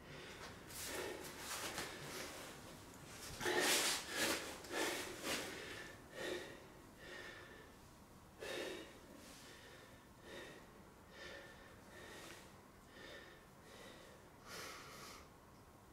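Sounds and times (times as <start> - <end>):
man breathing hard: 0.0 - 2.4, 3.3 - 15.4.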